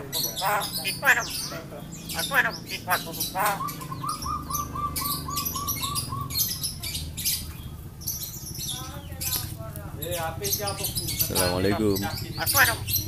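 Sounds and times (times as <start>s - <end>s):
myna calling: 0.0s - 13.0s
sharp high bird chirps: 0.3s - 13.0s.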